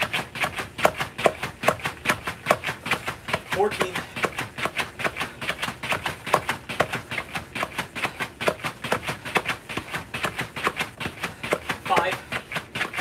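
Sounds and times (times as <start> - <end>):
battle ropes slapping floor: 0.0 - 13.0.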